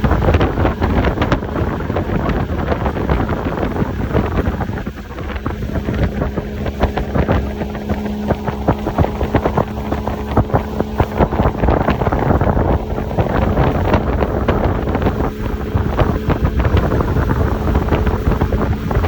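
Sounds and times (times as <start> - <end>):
motorboat engine running: 0.0 - 19.0
wind buffeting microphone: 0.0 - 19.0.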